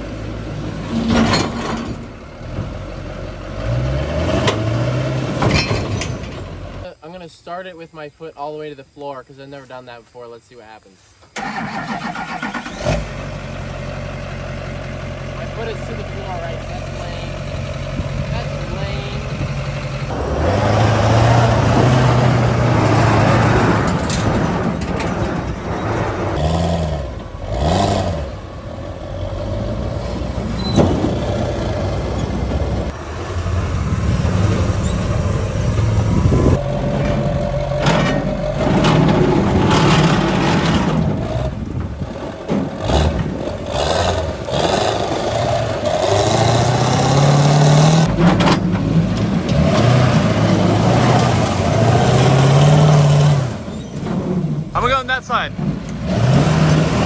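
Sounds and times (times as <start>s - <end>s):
monster truck engine revving: 0.0s - 6.9s, 11.4s - 57.0s.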